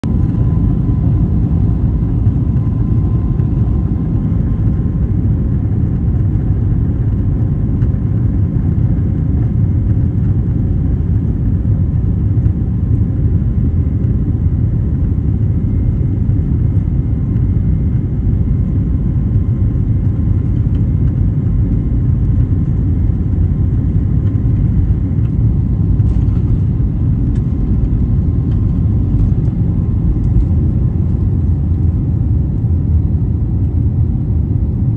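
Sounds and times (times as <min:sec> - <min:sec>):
jet engines rumbling in cabin: 0:00.0 - 0:34.9.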